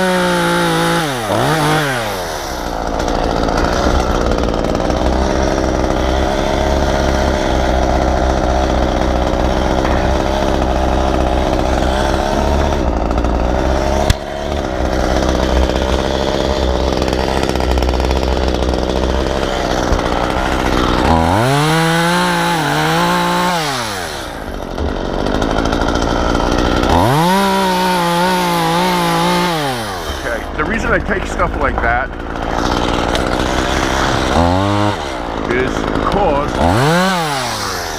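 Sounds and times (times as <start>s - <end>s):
chainsaw running and revving: 0.0s - 37.9s.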